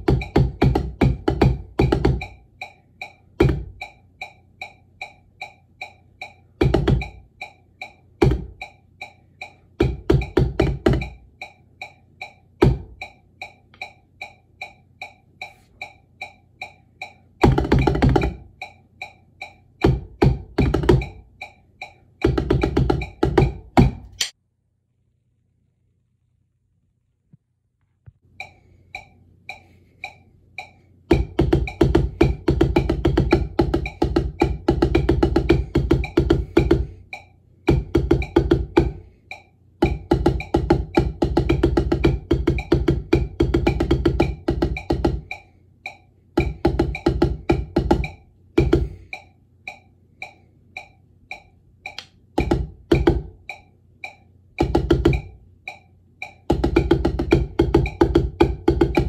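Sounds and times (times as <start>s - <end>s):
drumsticks on practice pad: 0.0s - 24.4s, 28.2s - 59.0s
metronome clicking: 0.0s - 24.4s, 28.4s - 59.0s.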